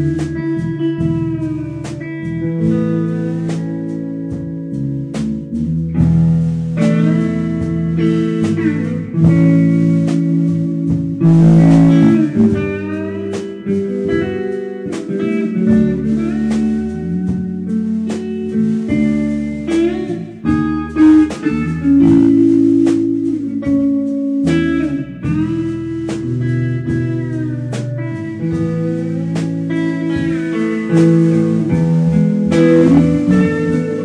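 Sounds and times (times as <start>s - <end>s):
drum kit: 0.0s - 34.0s
electric bass: 0.0s - 34.0s
electric guitar slow melody with bends: 0.0s - 34.0s.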